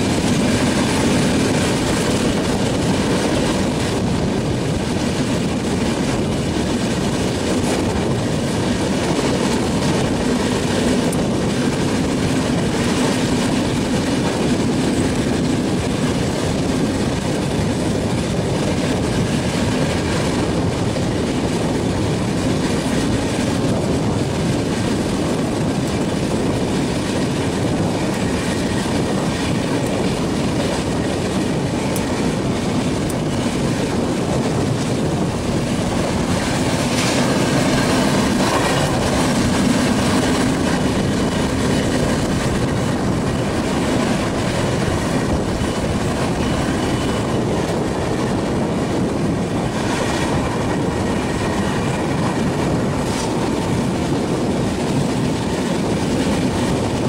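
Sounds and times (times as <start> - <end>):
clickety-clack over rail joints: 0.0 - 57.0
train wheels rushing on rail: 0.0 - 57.0.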